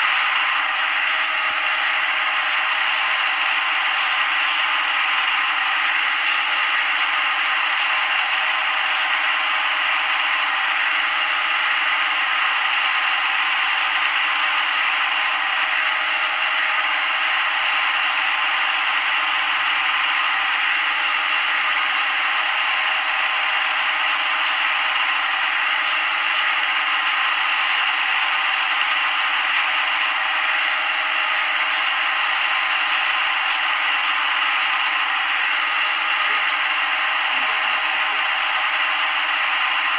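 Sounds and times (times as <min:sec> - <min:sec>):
simulated lathe scraping: 0:00.0 - 0:10.8, 0:17.1 - 0:39.9.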